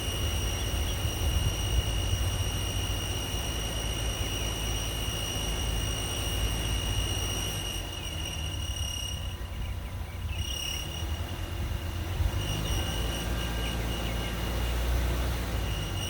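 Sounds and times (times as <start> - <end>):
engine rumble: 0.0 - 16.0
high-pitched squeal: 0.0 - 16.0.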